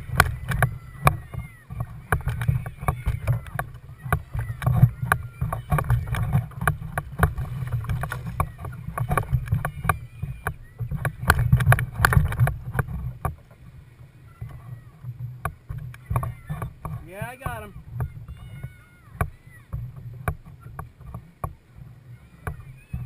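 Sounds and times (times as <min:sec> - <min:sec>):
knocks and clatter on kayak: 0:00.0 - 0:23.0.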